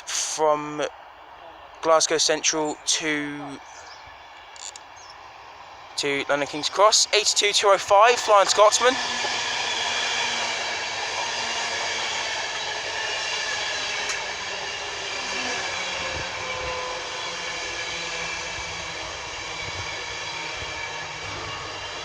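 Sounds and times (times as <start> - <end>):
train rumble: 1.8 - 22.0
high whine: 2.4 - 22.0.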